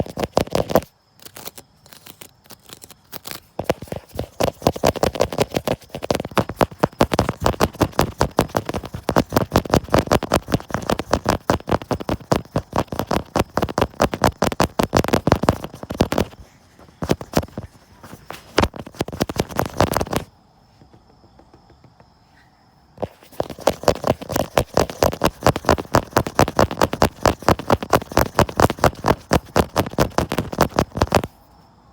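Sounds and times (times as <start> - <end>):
rapid tapping on phone: 0.0 - 0.9, 2.0 - 22.2, 23.0 - 31.4.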